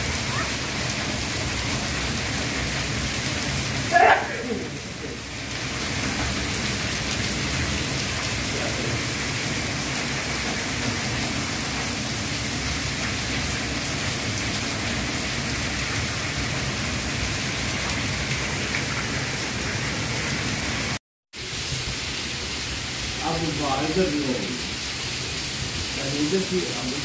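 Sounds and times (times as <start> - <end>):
heavy rain on concrete: 0.0 - 27.0.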